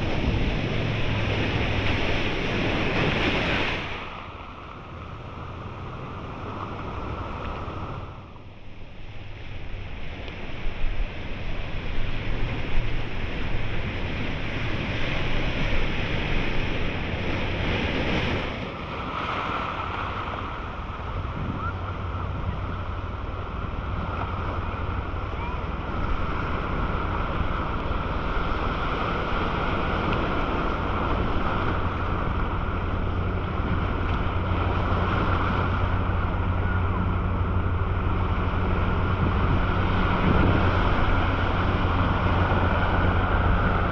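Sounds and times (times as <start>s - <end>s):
constant low hum: 0.0s - 43.9s
high steady whine: 0.0s - 43.9s
underwater rushing water: 0.0s - 43.9s.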